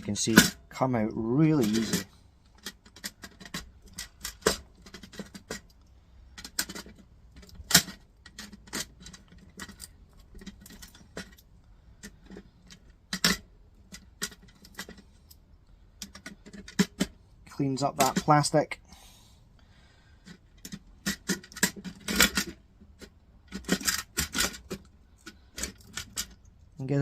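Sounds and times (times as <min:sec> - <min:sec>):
small metal parts clinking: 0:01.4 - 0:17.2, 0:20.2 - 0:26.8.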